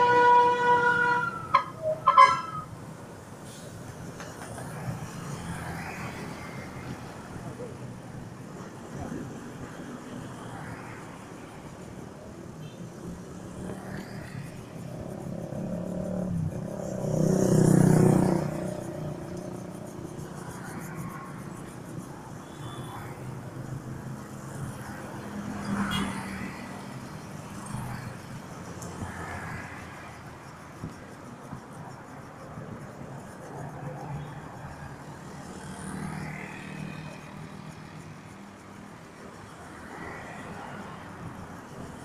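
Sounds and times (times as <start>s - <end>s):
car engines passing: 0.0s - 42.0s.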